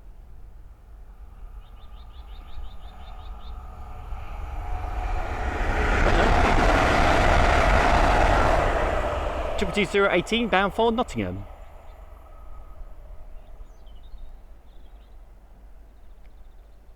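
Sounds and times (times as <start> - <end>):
diesel train passing: 0.2 - 14.6.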